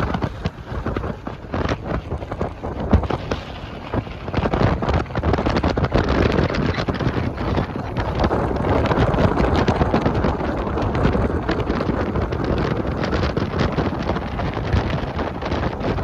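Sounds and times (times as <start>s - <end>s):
motorcycle running: 0.0s - 16.0s
road noise: 0.0s - 16.0s
wind buffeting microphone: 0.0s - 16.0s.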